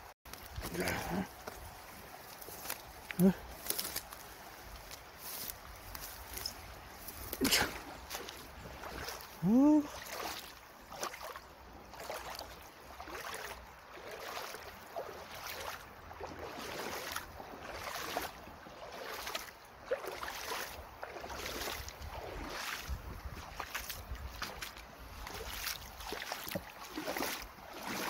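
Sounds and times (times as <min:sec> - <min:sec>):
footsteps splashing through stream: 0:00.0 - 0:28.0.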